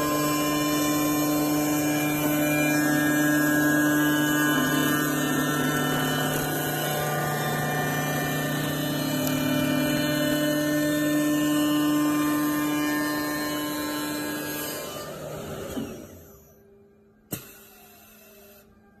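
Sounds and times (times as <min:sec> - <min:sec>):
lathe whining: 0:00.0 - 0:16.6.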